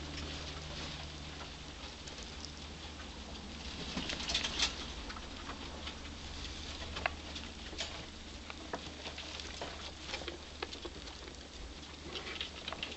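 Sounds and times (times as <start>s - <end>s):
rats scratching and rustling: 0.0s - 12.9s.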